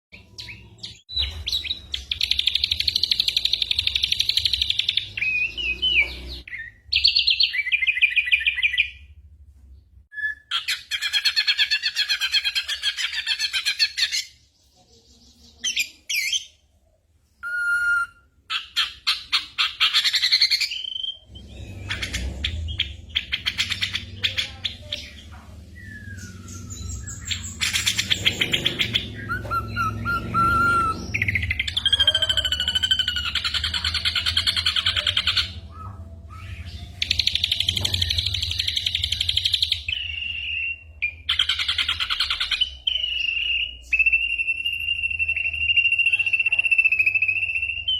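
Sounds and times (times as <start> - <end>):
bird singing trills and whistles: 0.2 - 9.0, 10.1 - 47.9.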